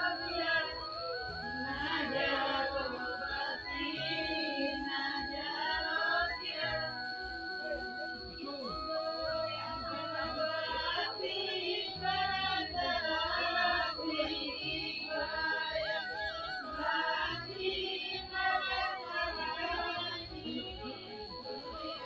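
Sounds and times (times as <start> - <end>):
woman singing: 0.0 - 7.0, 7.6 - 22.0
thin high tone: 0.0 - 22.0.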